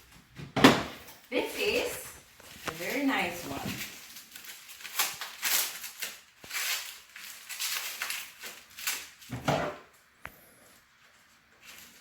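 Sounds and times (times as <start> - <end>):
packaging rustling and crinkling: 1.1 - 10.1, 10.8 - 12.0.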